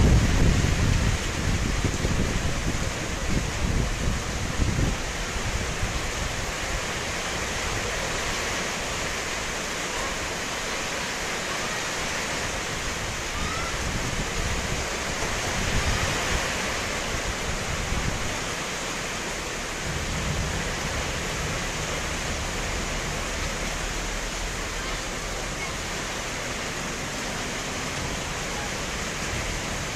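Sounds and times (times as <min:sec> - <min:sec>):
wind gusts rumbling: 0:00.0 - 0:09.2, 0:12.5 - 0:29.9
heavy rain pouring: 0:00.0 - 0:29.9.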